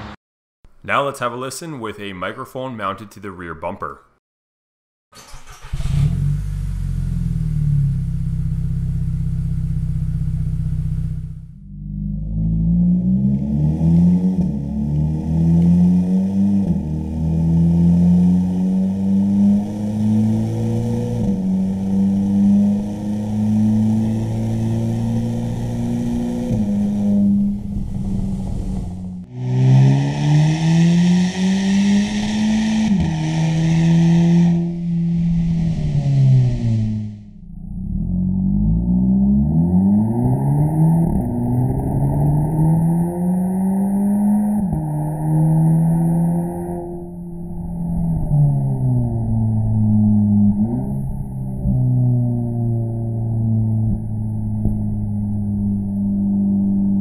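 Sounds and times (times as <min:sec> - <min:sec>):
car exhaust under acceleration: 0:05.5 - 0:57.0.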